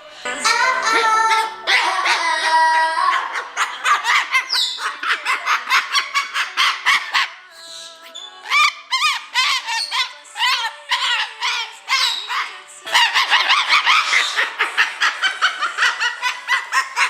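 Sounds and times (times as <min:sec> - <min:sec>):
parrot singing and squawking: 0:00.4 - 0:17.0.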